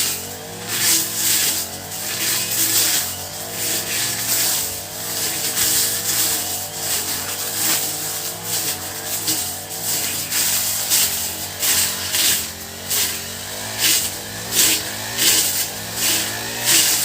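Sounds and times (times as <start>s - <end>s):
brush cutter engine running: 0.0s - 17.0s.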